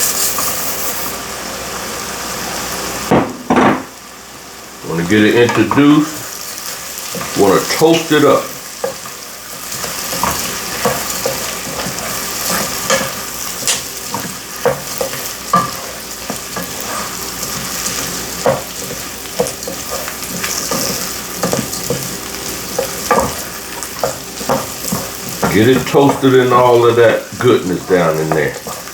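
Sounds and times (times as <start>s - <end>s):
utensil scraping a pot: 0.0s - 1.2s, 6.2s - 28.9s
rice sizzling in a pot: 0.0s - 28.9s.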